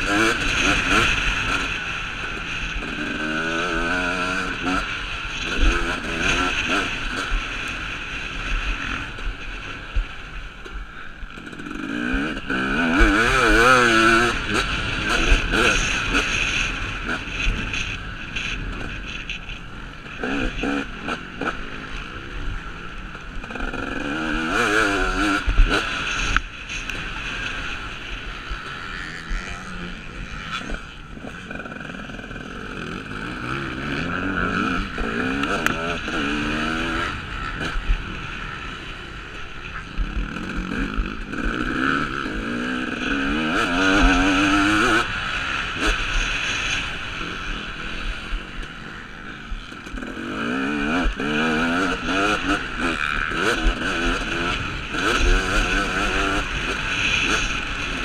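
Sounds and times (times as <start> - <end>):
two-stroke motorbike engine revving: 0.0 - 58.0.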